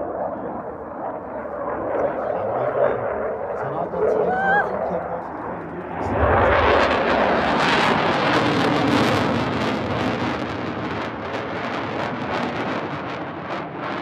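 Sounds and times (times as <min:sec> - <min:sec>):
jet fighter engine roar: 0:00.0 - 0:14.0.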